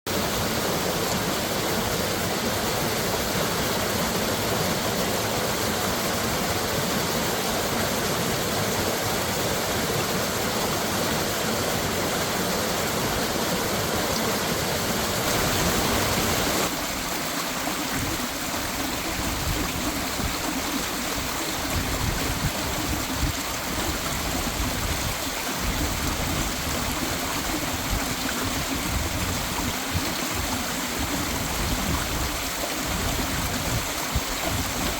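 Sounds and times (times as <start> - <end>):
stream rushing: 0.1 - 34.9.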